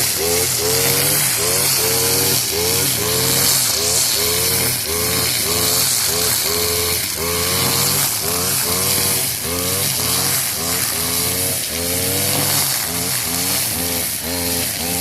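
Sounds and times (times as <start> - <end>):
brush cutter engine cutting: 0.0 - 15.0.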